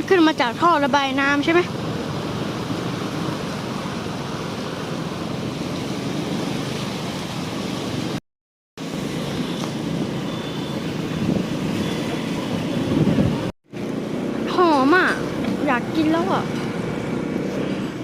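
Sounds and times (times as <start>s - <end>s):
vehicle driving with road noise: 0.0s - 8.2s, 8.8s - 18.0s
water noise: 0.0s - 8.2s, 8.8s - 18.0s.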